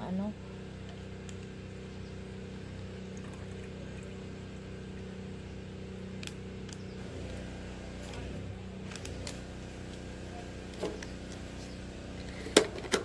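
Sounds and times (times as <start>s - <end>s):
distant lawn mower engine: 0.0s - 13.0s.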